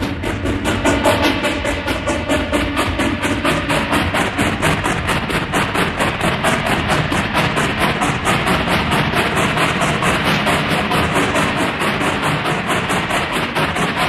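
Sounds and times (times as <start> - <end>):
dense music with fast beat: 0.0 - 14.0.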